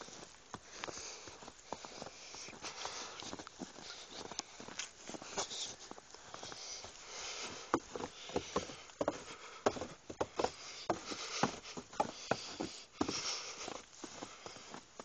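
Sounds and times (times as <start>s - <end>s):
faint hiss: 0.0s - 15.0s
footsteps crunching through snow: 0.0s - 15.0s.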